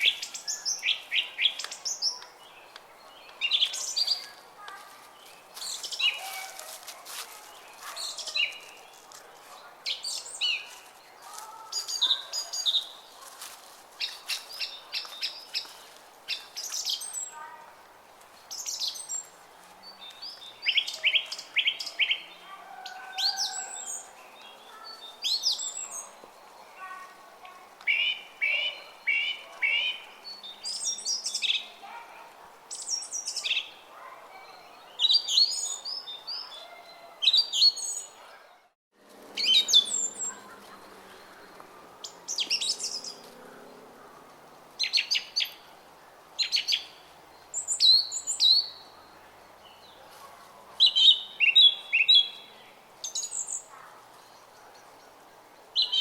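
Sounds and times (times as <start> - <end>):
songbirds chirping and singing: 0.0 - 17.6, 18.4 - 38.6, 39.3 - 45.7, 46.4 - 56.0.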